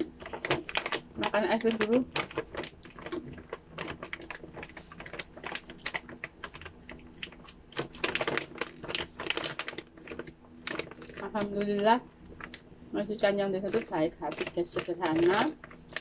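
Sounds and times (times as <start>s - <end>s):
plastic pouch crinkling: 0.0s - 12.7s, 13.7s - 16.0s.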